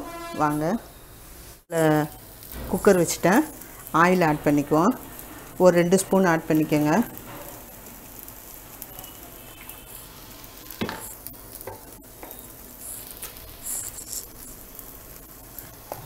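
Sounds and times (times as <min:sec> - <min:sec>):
oil sizzling hiss: 0:01.2 - 0:16.0.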